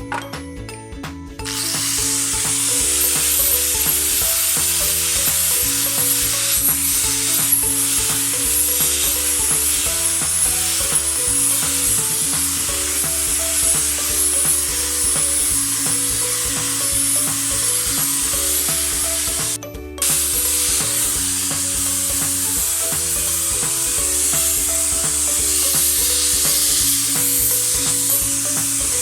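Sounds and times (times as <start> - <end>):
background music: 0.0 - 29.0
food sizzling in hot oil: 1.5 - 29.0.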